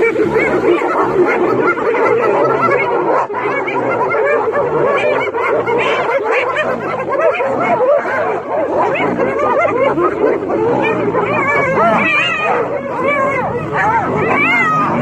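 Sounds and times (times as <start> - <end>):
hyenas giggling and whooping: 0.0 - 15.0.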